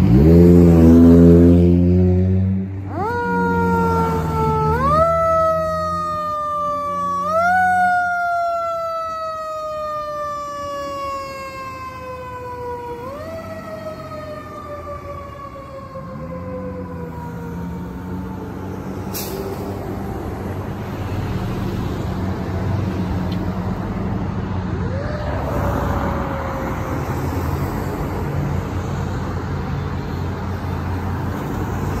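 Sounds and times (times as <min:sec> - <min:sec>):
passing traffic: 0:00.0 - 0:32.0
truck engine: 0:00.0 - 0:32.0
fire engine siren: 0:00.1 - 0:22.0, 0:24.5 - 0:29.3.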